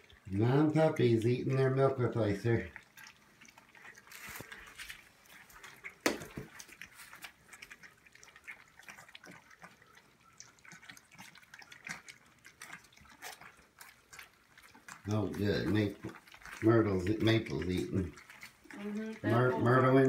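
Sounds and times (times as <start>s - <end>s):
puppies lapping milk: 0.0s - 20.0s
wet licking clicks: 2.6s - 19.3s.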